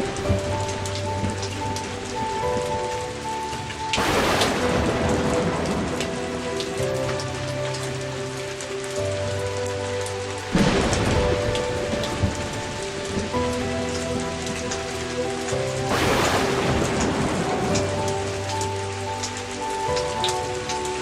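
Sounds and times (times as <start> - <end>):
background music held notes: 0.0 - 21.0
heavy rain pouring: 0.0 - 21.0.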